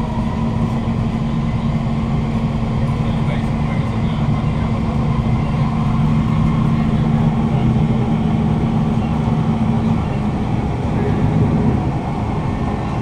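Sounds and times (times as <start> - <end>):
wheel on rail rumble: 0.0 - 13.0.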